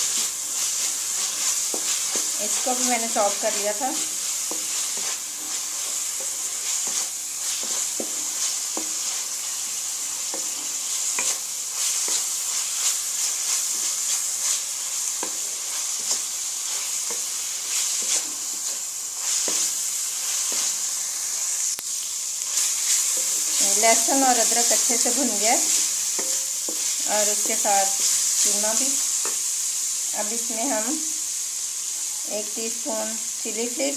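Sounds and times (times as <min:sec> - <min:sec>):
wooden spatula scraping a pan: 0:00.0 - 0:21.6, 0:22.4 - 0:29.6
meat sizzling in a pan: 0:00.0 - 0:33.9.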